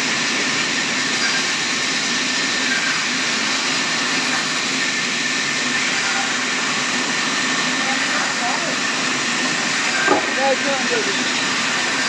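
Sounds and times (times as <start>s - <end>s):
band sawmill whirring: 0.0s - 12.0s.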